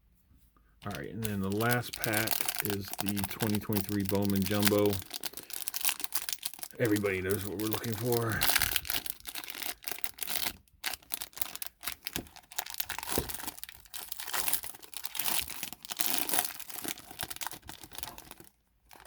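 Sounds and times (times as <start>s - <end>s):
wrapper being torn and crinkled: 0.8s - 19.0s.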